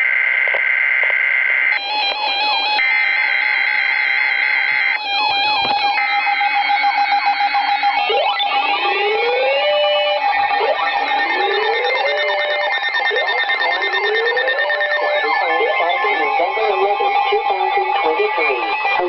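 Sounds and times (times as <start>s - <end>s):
emergency alert tone: 1.7s - 19.0s.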